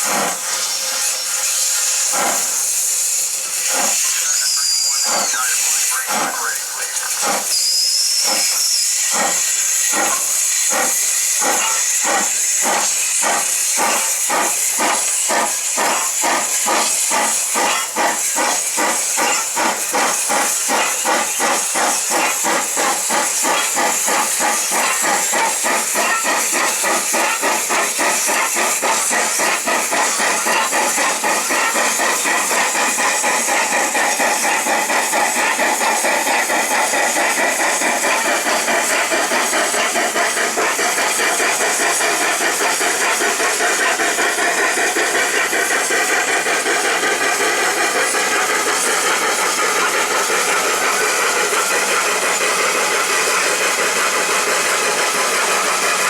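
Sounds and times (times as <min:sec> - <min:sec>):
steam hiss: 0:00.0 - 0:56.0
steam locomotive exhaust chuffs: 0:00.0 - 0:56.0.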